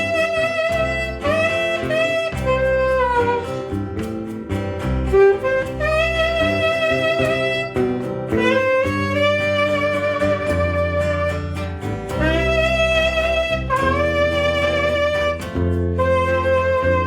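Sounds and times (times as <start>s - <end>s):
bass line: 0.0s - 17.0s
live band: 0.0s - 17.0s
saxophone melody: 0.0s - 17.0s.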